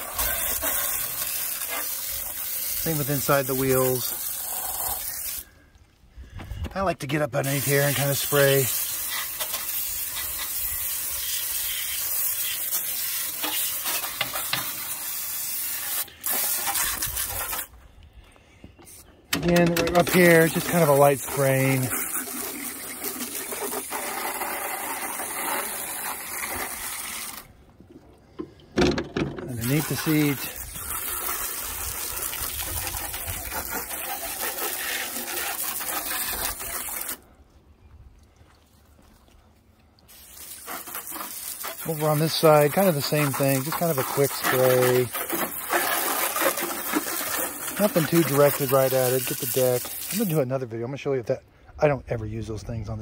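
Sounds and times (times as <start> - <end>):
hose water spraying and splashing: 0.0 - 5.8, 6.8 - 17.7, 18.9 - 27.6, 29.5 - 37.3, 40.0 - 50.6.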